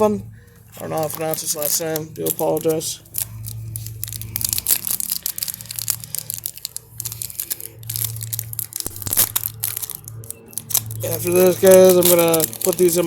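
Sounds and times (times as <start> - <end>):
plastic wrappers crinkling and tearing: 0.0 - 13.0.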